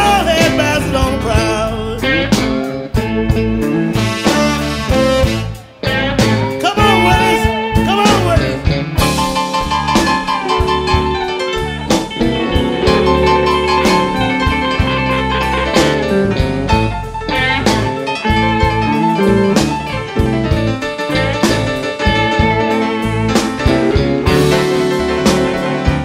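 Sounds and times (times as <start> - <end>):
blues band playing: 0.0 - 26.0
lead guitar bending notes: 0.0 - 26.0.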